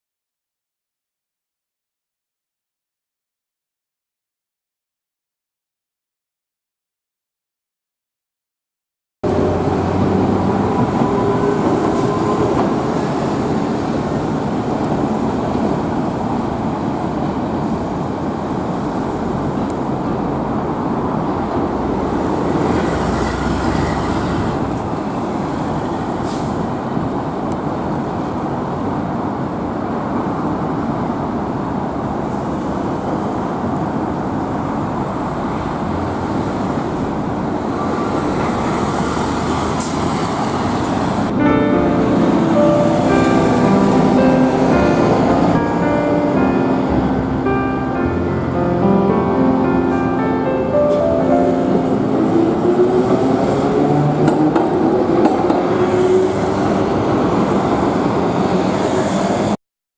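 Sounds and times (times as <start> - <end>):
streetcar rumbling on rails: 9.2 - 59.6.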